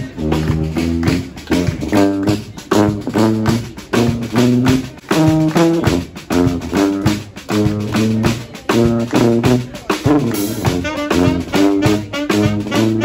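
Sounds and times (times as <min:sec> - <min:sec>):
brass band playing jazzy tune: 0:00.0 - 0:13.0
drum beat: 0:00.0 - 0:13.0.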